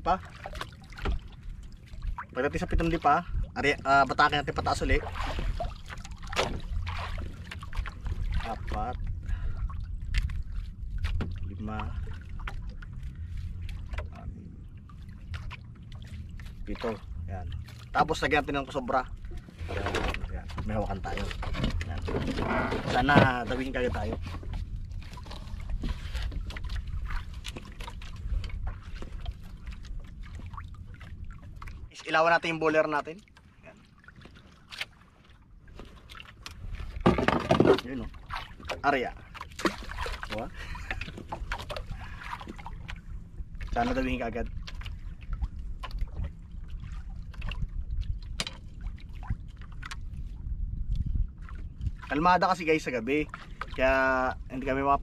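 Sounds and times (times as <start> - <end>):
steady low rumble: 0.0 - 33.1, 38.0 - 55.0
water lapping against boat hull: 0.0 - 55.0.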